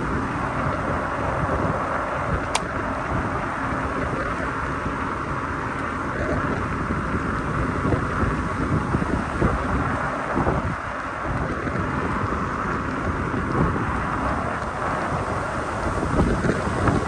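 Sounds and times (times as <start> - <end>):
road noise rushing: 0.0 - 17.0
wind buffeting microphone: 0.0 - 17.0.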